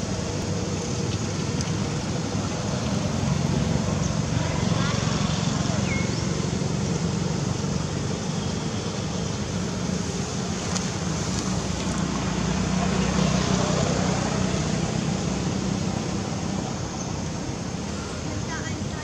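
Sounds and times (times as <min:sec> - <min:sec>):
vehicle noise hiss: 0:00.0 - 0:19.0.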